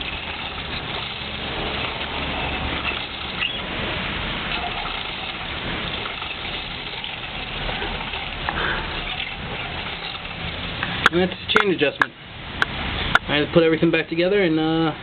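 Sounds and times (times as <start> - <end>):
heavy rain hissing: 0.0 - 13.6.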